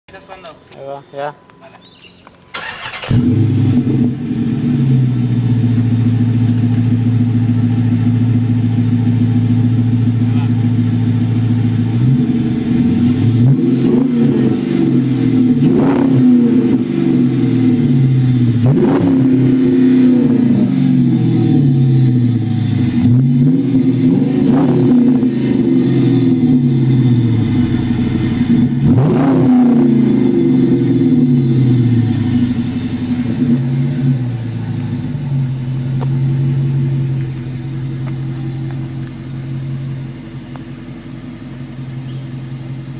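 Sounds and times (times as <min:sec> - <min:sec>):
car engine idling: 0:00.1 - 0:42.9
car engine revving: 0:02.5 - 0:42.9.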